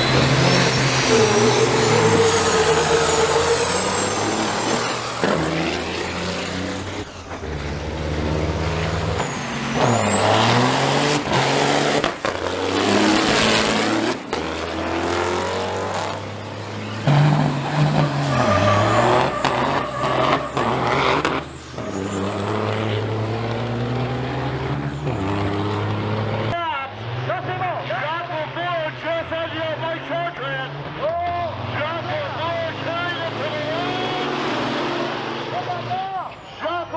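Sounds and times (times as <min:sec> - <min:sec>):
truck diesel engines under load: 0:00.0 - 0:36.9.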